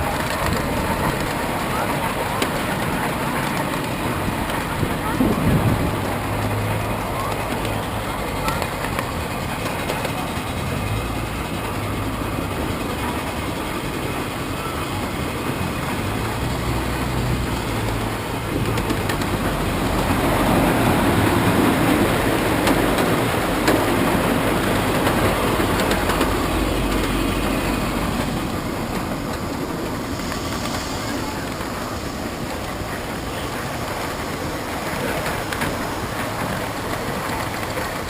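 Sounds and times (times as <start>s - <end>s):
train rumbling along track: 0.0s - 38.0s
wheels clicking over rail joints: 0.0s - 38.0s.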